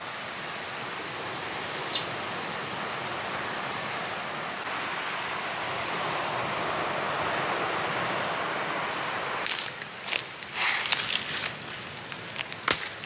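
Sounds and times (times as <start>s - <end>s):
sea surf rushing on beach: 0.0s - 13.0s.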